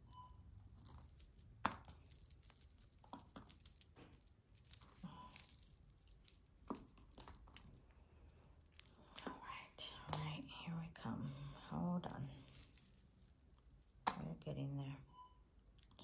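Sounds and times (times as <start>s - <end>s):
metal jewelry clinking: 0.0s - 14.3s.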